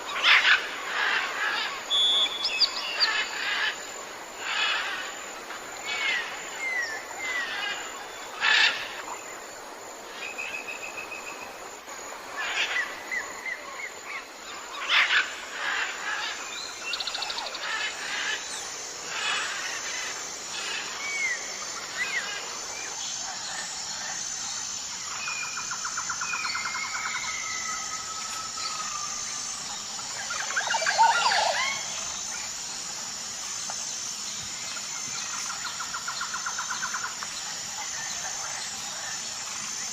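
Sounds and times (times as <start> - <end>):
jungle birds calling: 0.0 - 9.4, 12.2 - 39.9
steady high background tone: 0.1 - 39.9.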